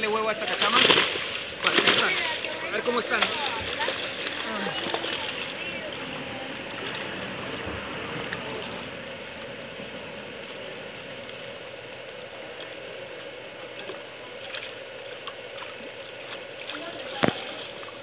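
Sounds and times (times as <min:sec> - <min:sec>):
faint steady hum: 0:00.0 - 0:18.0
moving water: 0:00.0 - 0:18.0
small water splashes: 0:00.3 - 0:09.6, 0:10.3 - 0:18.0.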